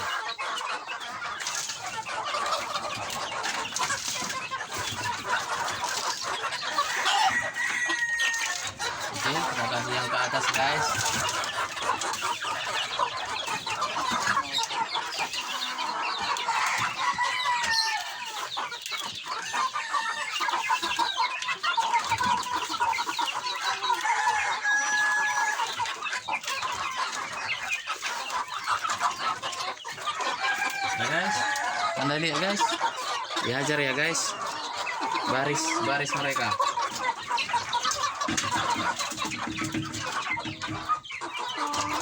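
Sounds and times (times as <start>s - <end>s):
young chickens calling: 0.0s - 42.0s.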